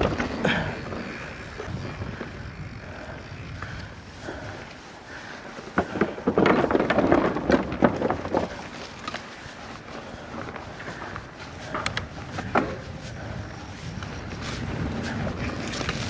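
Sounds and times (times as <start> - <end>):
bike clattering over bumps: 0.0 - 16.0
bike tyres crunching on dirt: 0.0 - 16.0
wind noise: 0.0 - 16.0.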